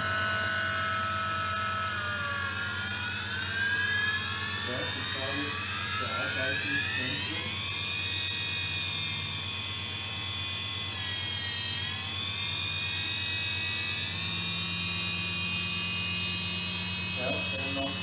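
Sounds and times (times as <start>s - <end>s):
milling machine spindle whine: 0.0s - 18.0s.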